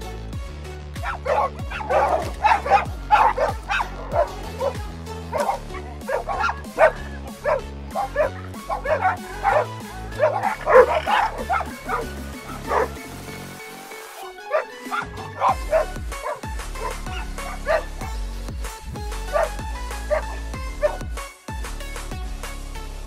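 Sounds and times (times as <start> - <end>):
background music: 0.0 - 23.0
dog barking rapidly: 1.0 - 18.2, 19.2 - 21.1.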